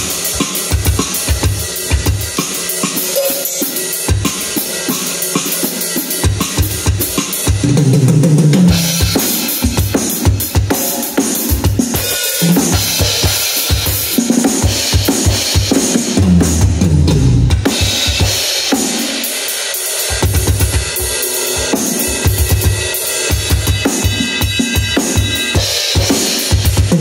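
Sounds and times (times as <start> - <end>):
drum kit fusion groove: 0.0 - 27.0.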